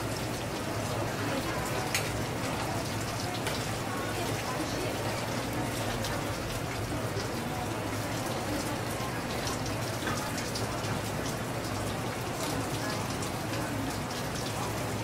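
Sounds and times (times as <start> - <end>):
water splashing and pattering: 0.0 - 15.0.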